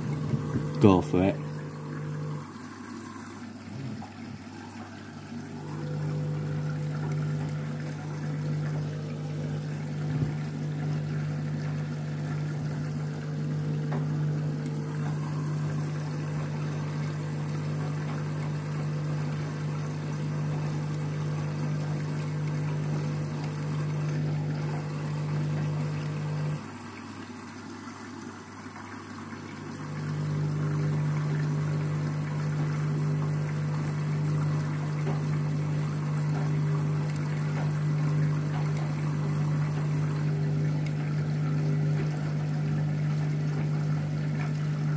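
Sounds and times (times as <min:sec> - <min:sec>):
laundry and water sloshing: 0:00.0 - 0:44.9
washing machine motor hum: 0:00.0 - 0:44.9.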